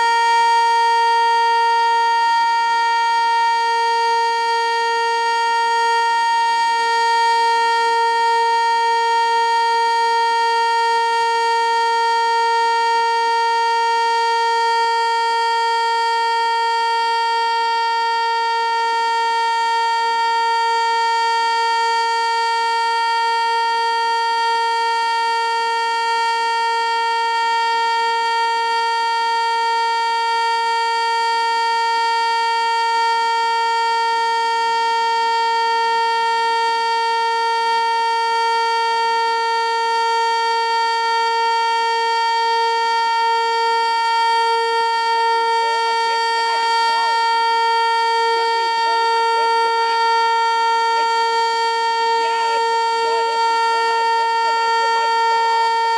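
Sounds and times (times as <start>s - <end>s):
warning siren steady tone: 0.0s - 55.9s.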